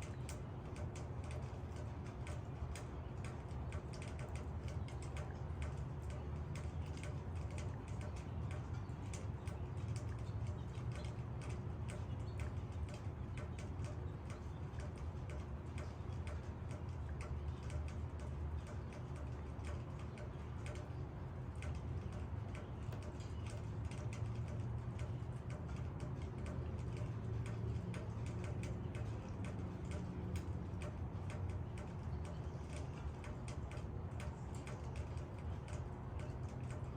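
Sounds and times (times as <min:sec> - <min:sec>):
raindrops ticking on leaves: 0:00.0 - 0:36.9.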